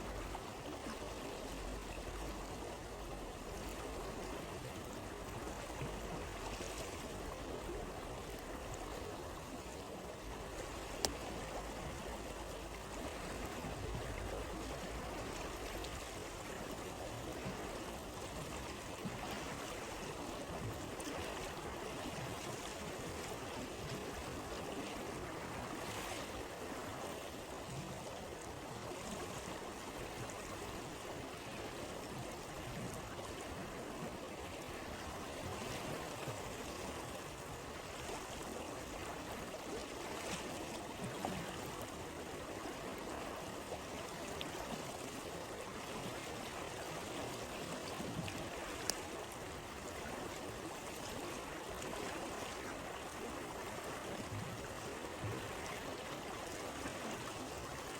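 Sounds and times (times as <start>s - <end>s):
stream rushing and babbling: 0.0s - 57.9s.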